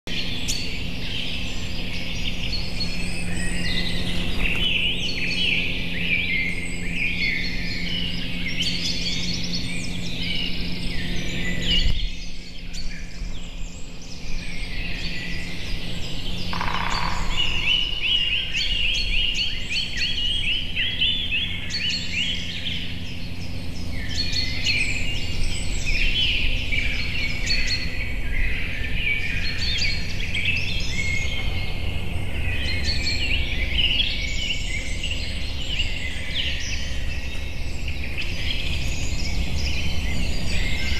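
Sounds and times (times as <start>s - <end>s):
songbirds chirping and trilling: 0.0s - 40.9s
steady low rumble: 0.2s - 40.9s.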